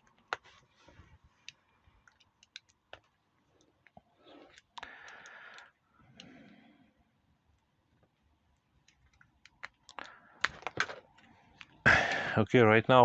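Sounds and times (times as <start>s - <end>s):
plastic hose and tools clicking: 0.0s - 6.6s, 7.5s - 12.3s.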